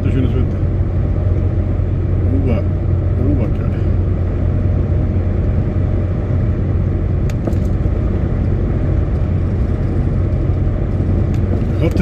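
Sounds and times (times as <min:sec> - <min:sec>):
road and tyre noise: 0:00.0 - 0:12.0
truck engine drone: 0:00.0 - 0:12.0.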